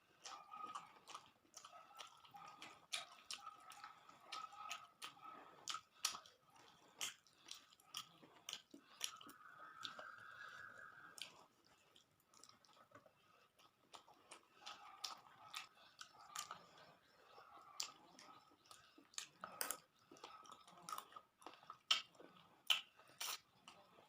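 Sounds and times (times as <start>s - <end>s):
wet chewing: 0.0s - 24.0s
mouth clicks and smacks: 0.2s - 24.0s.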